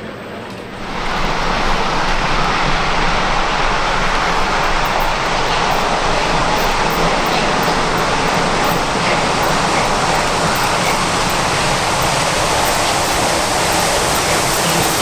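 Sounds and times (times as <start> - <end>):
train rushing: 0.0 - 15.0.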